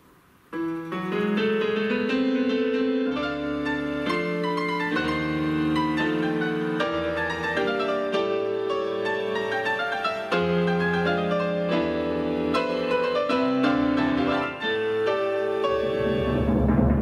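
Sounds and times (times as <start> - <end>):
electronic keyboard chords and melody: 0.5 - 17.0.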